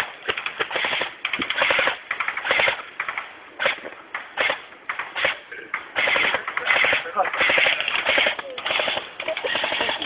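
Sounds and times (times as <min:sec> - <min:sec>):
airsoft guns firing bursts: 0:00.0 - 0:10.0.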